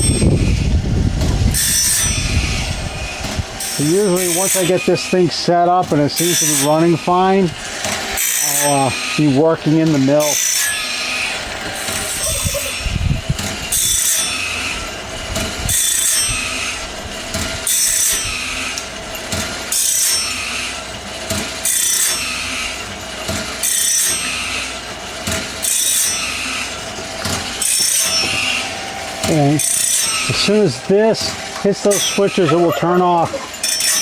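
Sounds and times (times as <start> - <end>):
blade sharpener grinding: 0.0 - 34.0
motor humming: 0.0 - 34.0.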